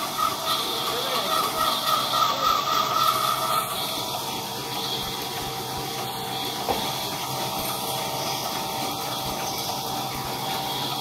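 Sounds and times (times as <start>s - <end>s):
band saw humming: 0.0s - 11.0s.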